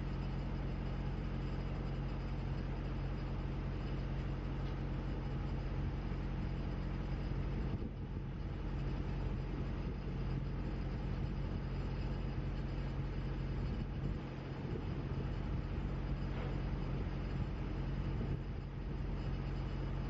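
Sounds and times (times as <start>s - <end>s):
engine drone: 0.0s - 20.0s
mechanical hum: 0.0s - 20.0s
noisy rumble: 0.0s - 20.0s.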